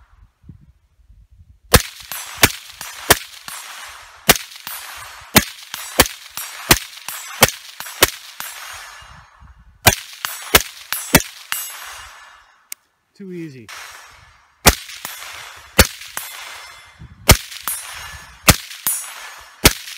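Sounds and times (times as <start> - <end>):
suppressed rifle shots: 1.7 - 9.1, 9.8 - 12.5, 13.7 - 19.9
bullets hitting steel targets: 1.7 - 12.8, 13.7 - 19.9.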